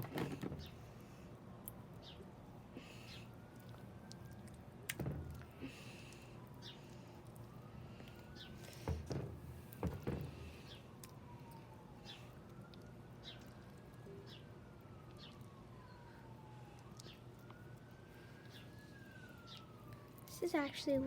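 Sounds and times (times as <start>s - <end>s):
faint police siren wailing: 0.0s - 21.0s.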